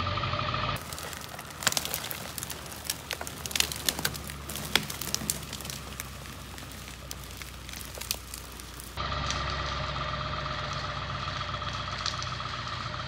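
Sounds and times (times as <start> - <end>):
dry twigs crackling and snapping: 0.8 - 13.0.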